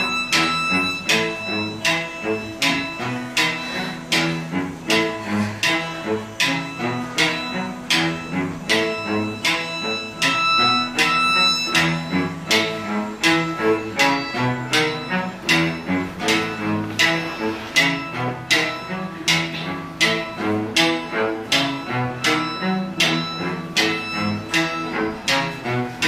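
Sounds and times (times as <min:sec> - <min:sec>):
bowed strings: 0:00.0 - 0:26.0
plucked guitar: 0:00.0 - 0:26.0.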